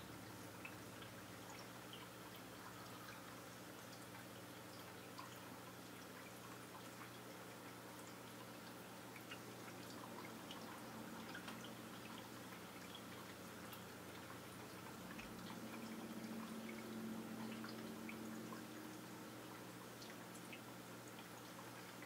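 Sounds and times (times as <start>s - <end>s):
low aquarium hum: 0.0s - 22.0s
water drips: 0.0s - 22.0s
water trickling: 0.0s - 22.0s.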